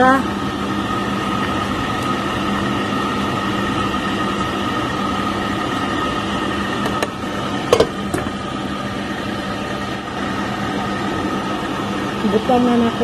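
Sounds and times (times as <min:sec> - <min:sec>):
pot simmering: 0:00.0 - 0:13.0
steady hum: 0:00.0 - 0:13.0.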